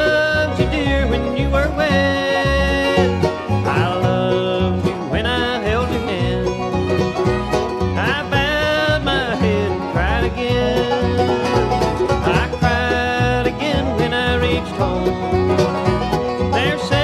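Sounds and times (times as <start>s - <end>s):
acoustic guitar: 0.0s - 17.0s
banjo rolls: 0.0s - 17.0s
sliding lead line: 0.0s - 17.0s
upright bass: 0.0s - 17.0s.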